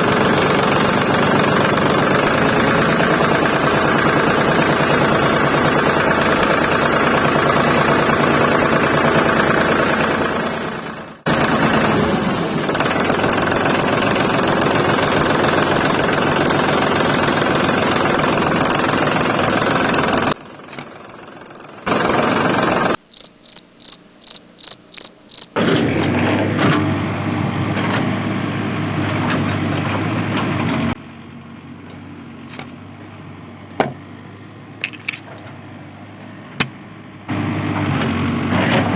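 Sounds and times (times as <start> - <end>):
miniature diesel engine buzzing: 0.0 - 23.0, 25.6 - 38.9.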